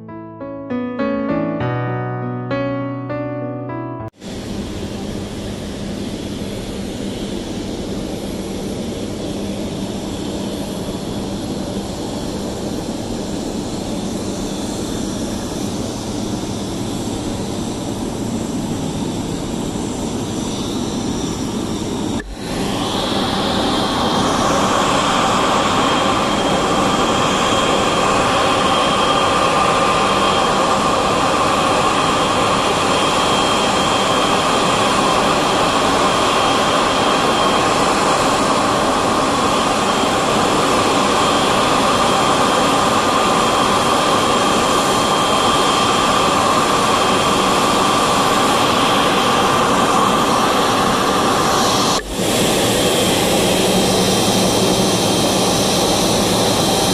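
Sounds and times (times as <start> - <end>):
jet engines whining: 4.3 - 56.9.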